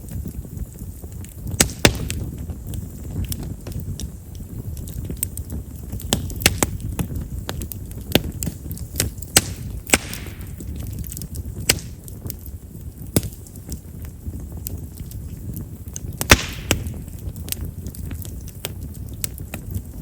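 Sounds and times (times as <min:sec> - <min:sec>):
firewood crackling and popping: 0:00.0 - 0:20.0
low rumble of flame: 0:00.0 - 0:20.0.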